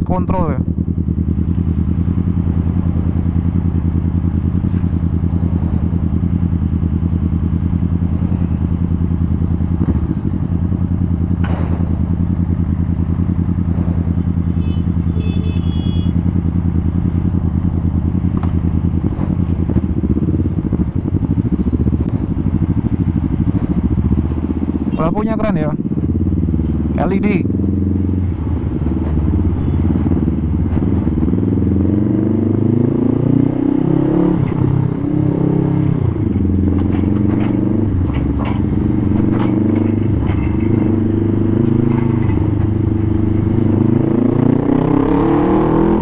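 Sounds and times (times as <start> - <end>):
motorcycle engine cruising: 0.0 - 46.0.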